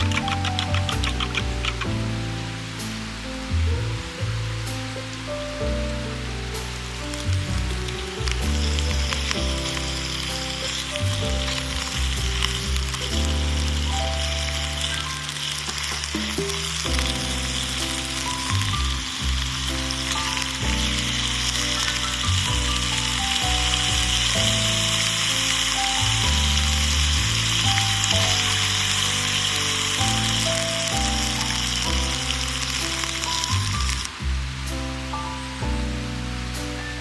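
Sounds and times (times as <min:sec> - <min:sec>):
food sizzling: 0:00.0 - 0:37.0
slow melodic background music: 0:00.0 - 0:37.0.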